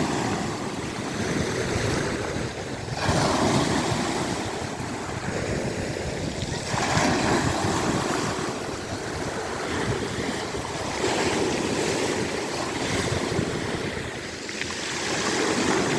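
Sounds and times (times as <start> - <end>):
surf washing in waves: 0.0 - 15.9
wind rumbling on microphone: 0.0 - 15.9.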